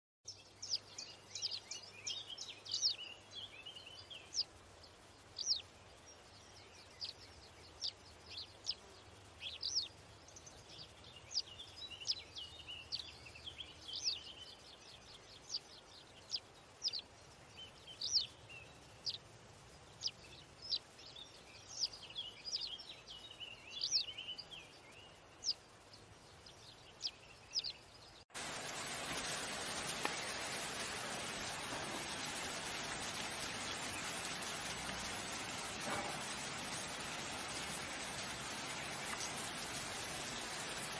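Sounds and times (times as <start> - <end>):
small birds chirping: 0.2 - 40.9
steady hiss: 0.3 - 40.9.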